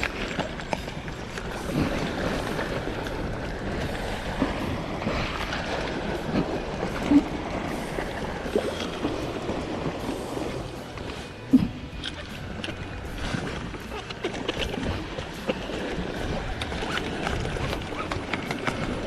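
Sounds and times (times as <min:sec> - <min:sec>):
sea: 0:00.0 - 0:19.0
wind: 0:00.0 - 0:19.0.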